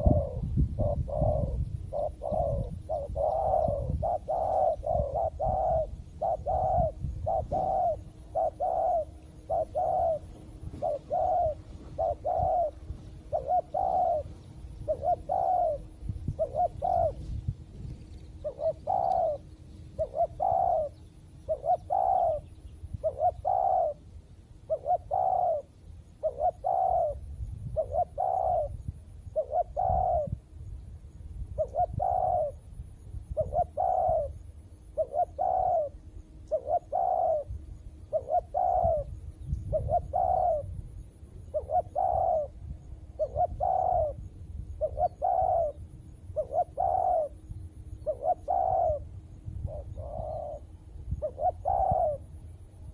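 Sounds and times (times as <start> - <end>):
dove cooing: 0.0 - 30.6, 31.5 - 52.9.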